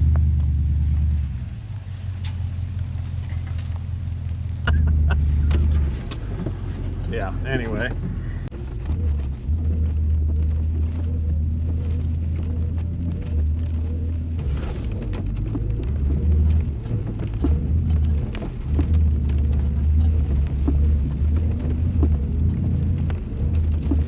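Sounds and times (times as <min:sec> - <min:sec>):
truck rumbling off-road: 0:00.0 - 0:24.0.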